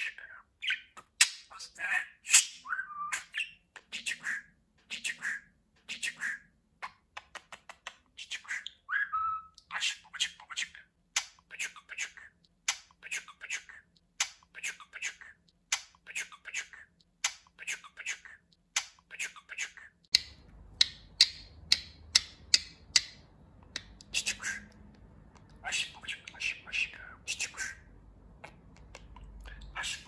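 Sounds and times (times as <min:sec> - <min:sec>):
budgerigar clicking: 0:03.2 - 0:08.8, 0:09.5 - 0:27.7, 0:28.4 - 0:30.0.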